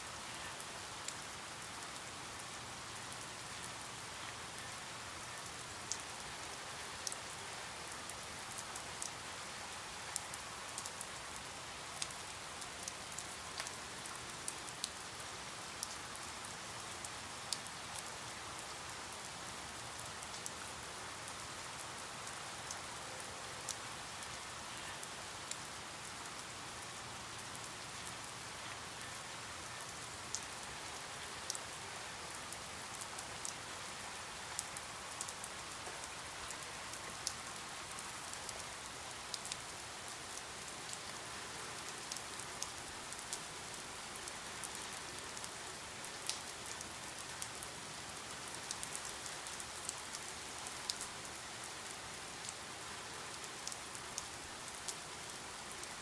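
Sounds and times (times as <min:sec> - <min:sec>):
steady rainfall: 0:00.0 - 0:56.0
raindrops ticking on surface: 0:00.3 - 0:23.0, 0:23.6 - 0:52.7, 0:53.4 - 0:56.0.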